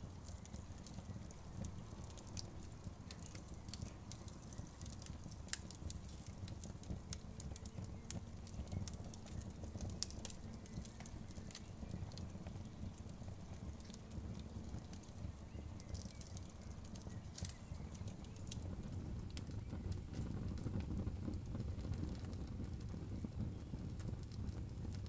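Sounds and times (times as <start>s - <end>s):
low rumble of burning: 0.0s - 25.0s
wood fire crackling and popping: 0.0s - 25.0s.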